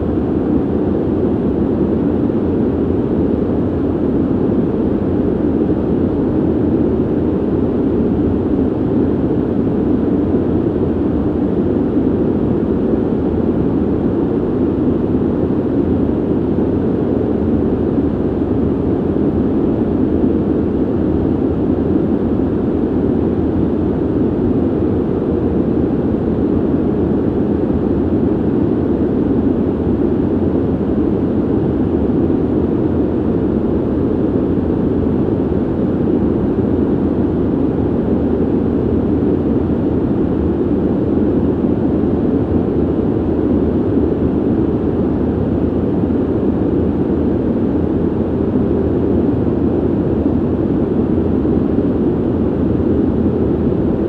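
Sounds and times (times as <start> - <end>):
ventilation air whoosh: 0.0 - 54.0.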